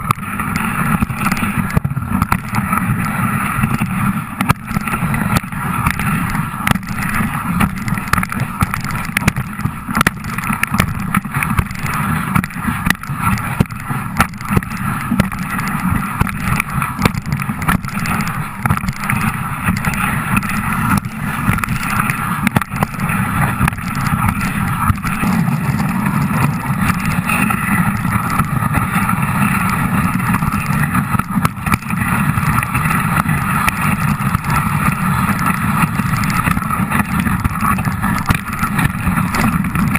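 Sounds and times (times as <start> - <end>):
sled knocking and rattling: 0.0 - 39.9
sled runners scraping on snow: 0.0 - 39.9.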